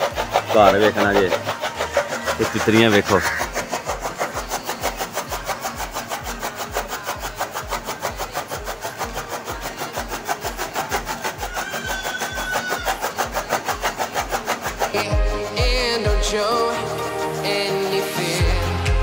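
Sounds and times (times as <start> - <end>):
engine thumping: 0.0 - 19.0.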